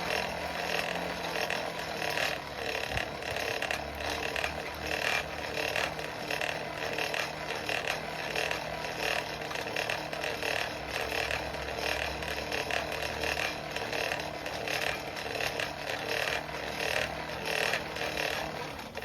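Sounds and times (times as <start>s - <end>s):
forge blower air rushing: 0.0s - 19.0s.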